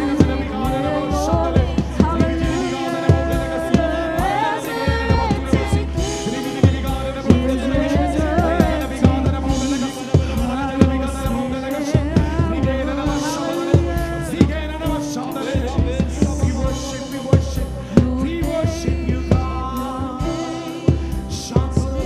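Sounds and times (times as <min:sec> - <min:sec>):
band accompaniment: 0:00.0 - 0:22.0
bass: 0:00.0 - 0:22.0
person singing: 0:00.0 - 0:22.0
steady drum beat: 0:00.0 - 0:22.0.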